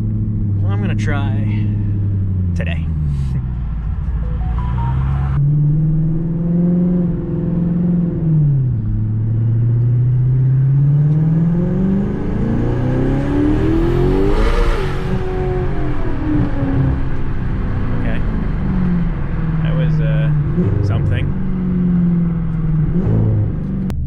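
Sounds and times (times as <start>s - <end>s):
turbo car engine accelerating: 0.0s - 24.0s.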